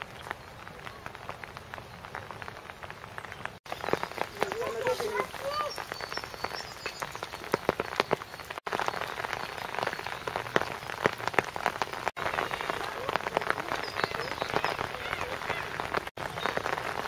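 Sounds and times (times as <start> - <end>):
rain drops ticking: 0.0 - 17.0
steady rain hiss: 0.0 - 17.0.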